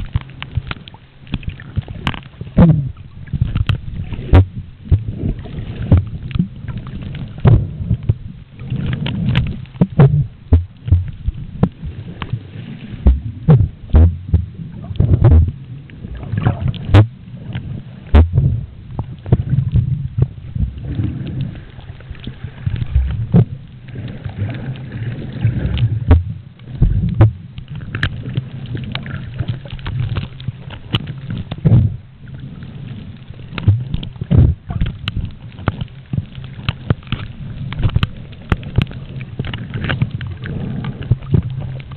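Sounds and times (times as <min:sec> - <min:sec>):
underwater clicks and knocks: 0:00.0 - 0:12.4, 0:13.0 - 0:41.9
underwater rumble of moving water: 0:00.0 - 0:41.9.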